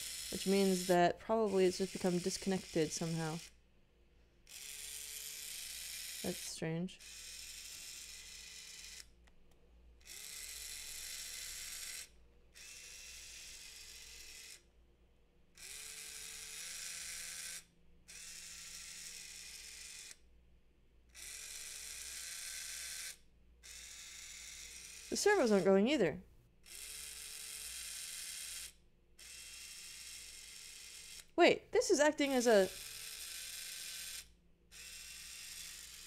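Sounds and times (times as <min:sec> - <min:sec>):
small motor whining: 0:00.0 - 0:03.6, 0:04.4 - 0:09.2, 0:10.0 - 0:14.7, 0:15.6 - 0:20.2, 0:21.1 - 0:25.9, 0:26.6 - 0:36.0.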